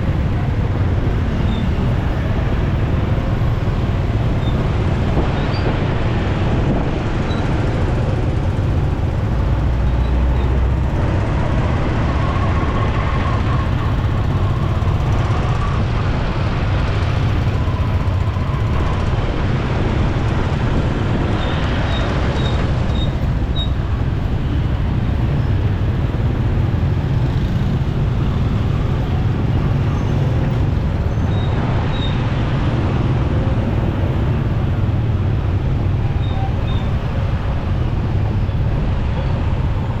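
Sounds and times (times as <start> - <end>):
road noise: 0.0 - 40.0
surrounding traffic: 0.0 - 40.0.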